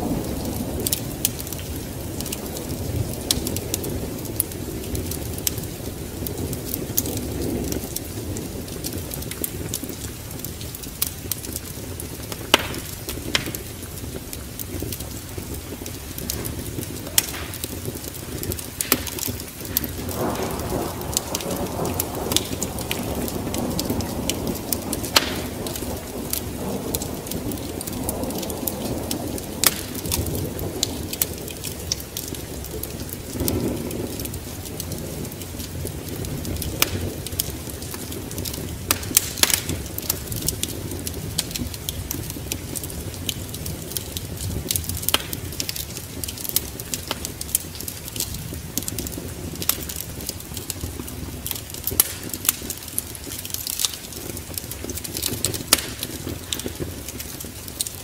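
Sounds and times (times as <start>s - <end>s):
rolling thunder: 0.0s - 52.4s
wood fire crackling and popping: 0.0s - 58.0s.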